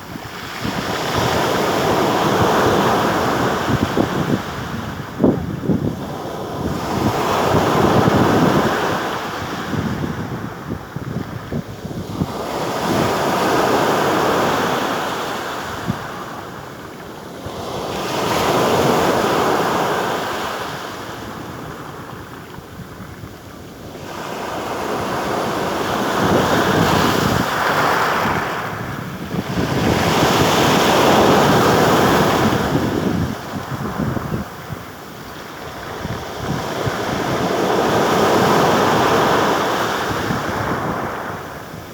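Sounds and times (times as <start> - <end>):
sea waves breaking on shore: 0.0 - 41.9
wind buffeting microphone: 0.0 - 41.9.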